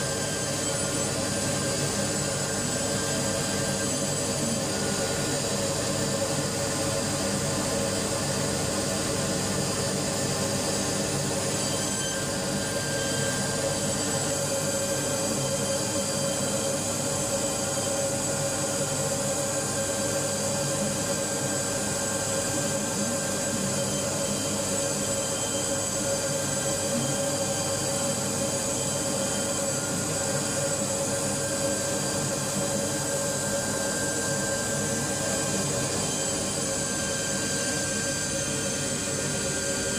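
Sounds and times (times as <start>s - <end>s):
milling spindle whine: 0.0s - 39.9s.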